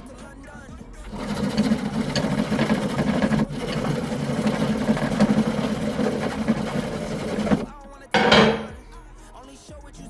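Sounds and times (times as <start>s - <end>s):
saw rasping through wood: 0.0s - 8.8s.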